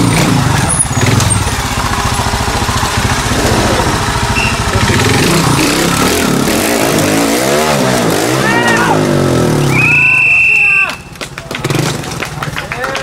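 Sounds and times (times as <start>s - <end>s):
motorcycle engine revving: 0.0s - 10.3s, 11.0s - 12.7s.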